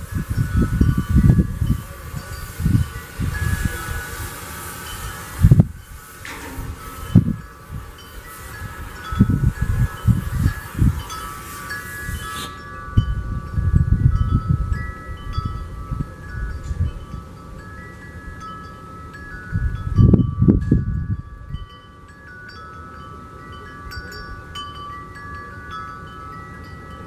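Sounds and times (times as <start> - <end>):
wind chimes ringing: 0.0 - 27.0.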